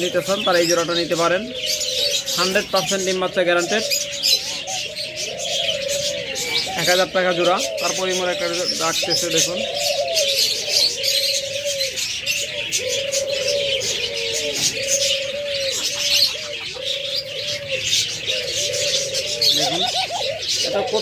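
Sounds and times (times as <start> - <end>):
dove cooing: 0.0 - 21.0
small birds chirping: 0.0 - 21.0.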